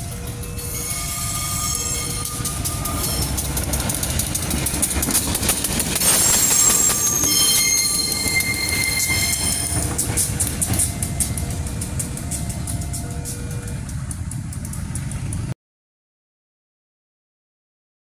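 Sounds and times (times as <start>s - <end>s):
wheels squealing: 0.0s - 15.5s
locomotive engine rumble: 0.0s - 15.6s
wheels clacking over rail joints: 0.0s - 15.6s.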